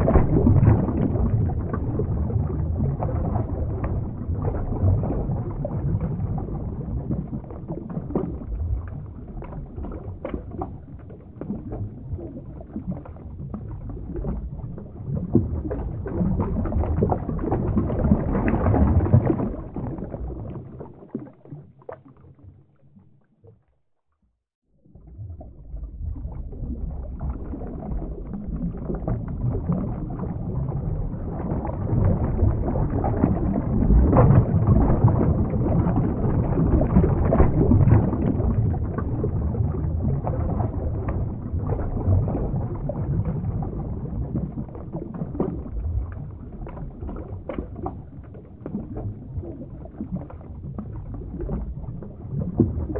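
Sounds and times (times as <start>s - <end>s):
underwater rumbling rush of water: 0.0s - 23.7s, 24.7s - 52.9s.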